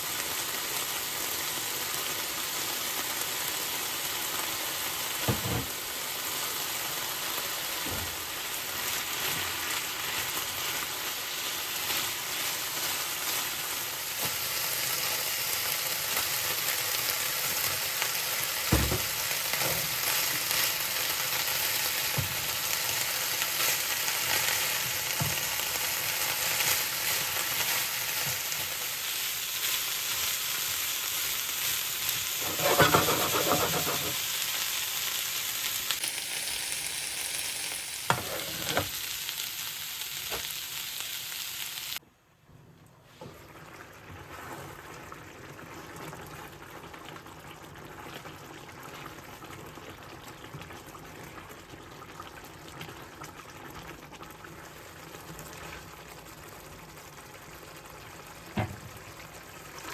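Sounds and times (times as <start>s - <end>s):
food sizzling in a frying pan: 0.0s - 42.0s, 44.2s - 59.9s.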